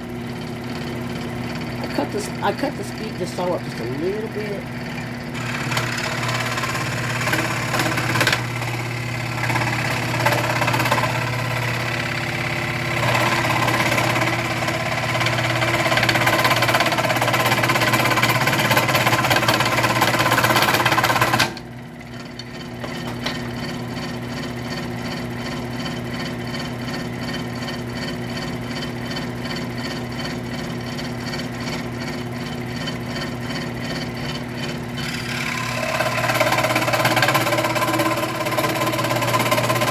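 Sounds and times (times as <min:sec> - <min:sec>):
scroll saw cutting wood: 0:00.0 - 0:39.9
scroll saw running: 0:00.0 - 0:39.9.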